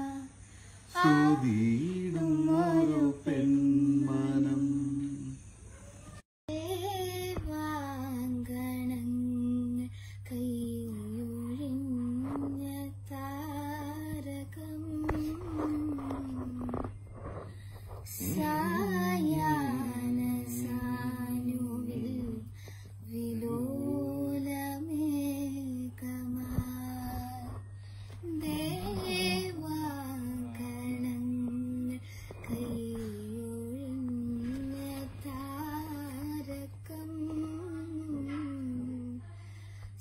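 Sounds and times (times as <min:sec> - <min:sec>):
girl singing unaccompanied: 0:00.0 - 0:03.4, 0:06.5 - 0:17.0, 0:18.0 - 0:40.0
low electrical hum: 0:00.0 - 0:40.0.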